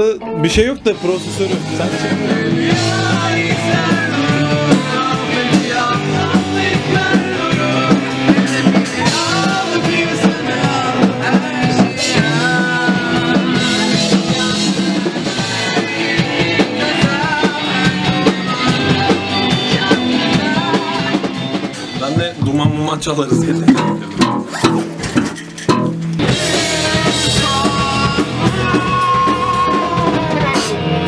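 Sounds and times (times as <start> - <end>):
man singing: 0.0 - 24.7, 26.2 - 30.7
bass guitar: 0.0 - 31.0
drum kit: 0.0 - 31.0
electric guitar: 0.0 - 31.0.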